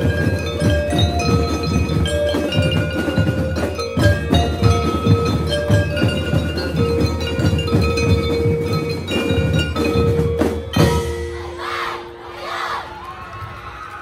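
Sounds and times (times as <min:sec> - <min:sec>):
marching drums beating fast: 0:00.0 - 0:11.8
bell lyres ringing melody: 0:00.0 - 0:12.2.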